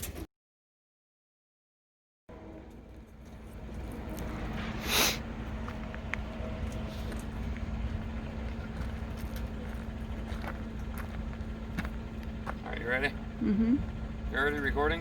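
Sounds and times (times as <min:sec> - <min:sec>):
vehicle engine idling: 0:02.3 - 0:15.0.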